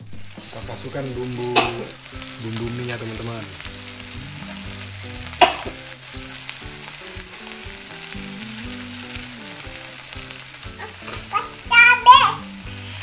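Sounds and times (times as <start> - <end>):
noodles sizzling: 0.0 - 13.0.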